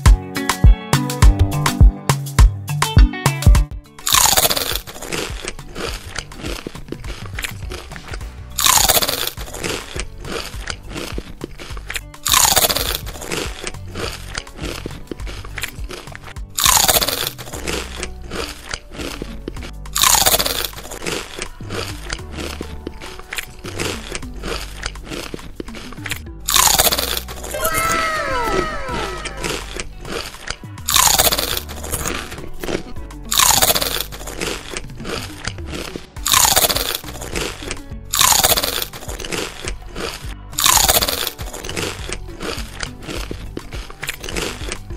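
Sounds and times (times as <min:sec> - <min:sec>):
background music: 0:00.0 - 0:44.9
crunching and chewing snacks: 0:04.0 - 0:44.9.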